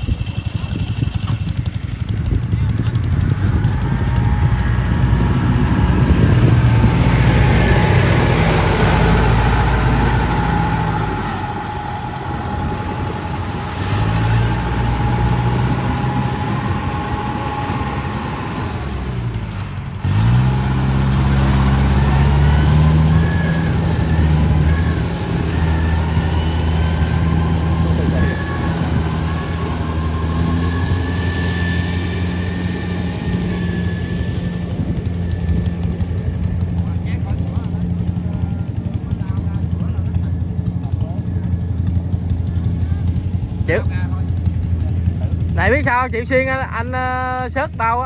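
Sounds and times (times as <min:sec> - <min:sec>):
engine whine: 0:00.0 - 0:48.0
heavy machine engine running: 0:00.0 - 0:48.0.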